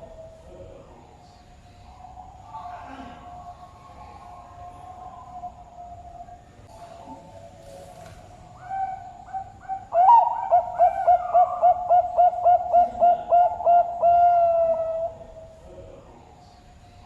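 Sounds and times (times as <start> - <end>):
dove cooing: 1.8 - 15.6.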